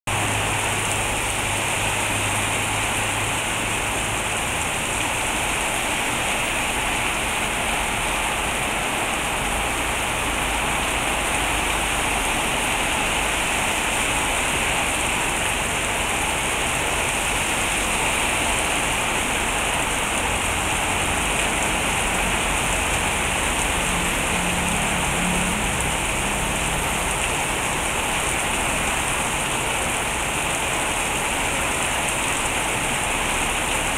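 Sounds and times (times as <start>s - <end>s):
heavy rain pouring on street: 0.1s - 33.9s.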